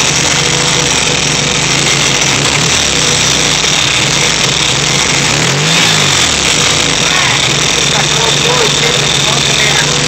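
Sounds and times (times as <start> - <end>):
air-cooled engine running: 0.0 - 10.0.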